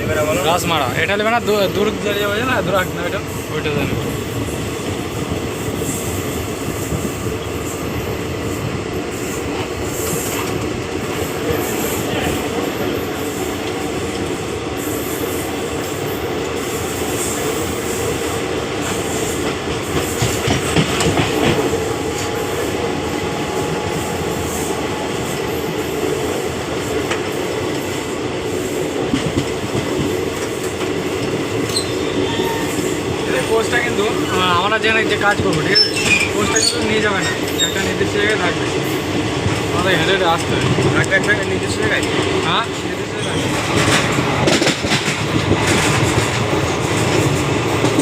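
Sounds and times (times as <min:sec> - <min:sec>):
train running on rails: 0:00.0 - 0:48.0.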